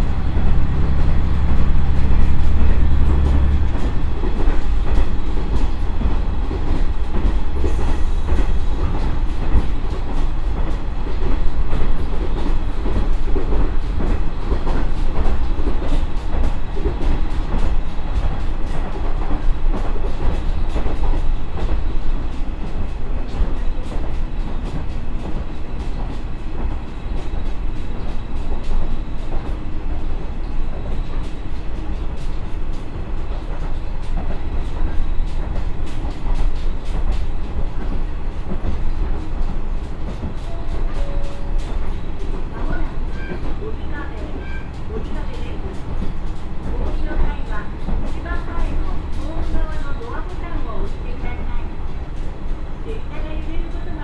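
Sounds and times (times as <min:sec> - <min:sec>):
rail clicks: 0:00.0 - 0:54.0.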